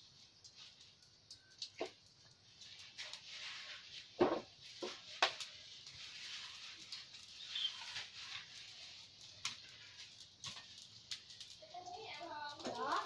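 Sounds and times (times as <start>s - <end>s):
faint fire hiss: 0.0s - 13.0s
fire pops: 0.0s - 13.0s
wood fire crackling: 0.0s - 13.0s.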